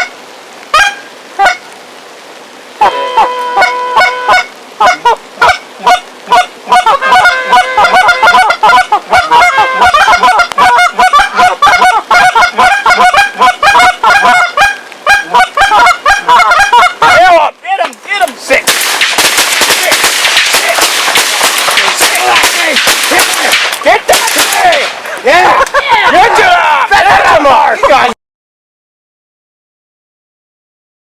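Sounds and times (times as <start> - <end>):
geese honking: 0.7 - 1.7, 2.8 - 17.4, 18.7 - 28.0.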